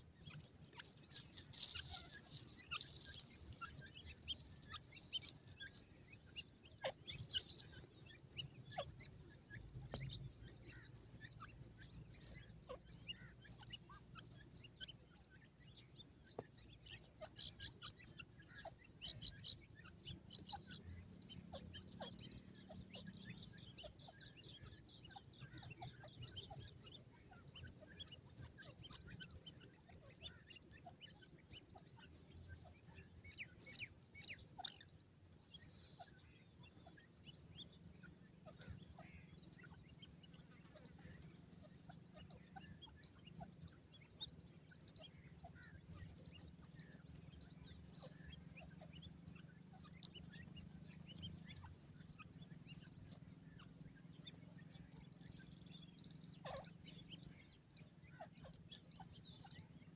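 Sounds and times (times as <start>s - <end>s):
chicks chirping and peeping: 0.0s - 59.9s.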